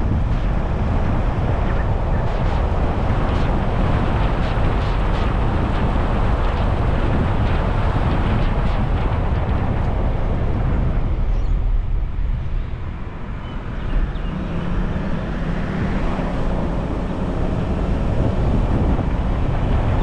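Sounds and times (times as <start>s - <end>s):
tyres rumbling on road: 0.0s - 20.0s
wind noise: 0.0s - 20.0s.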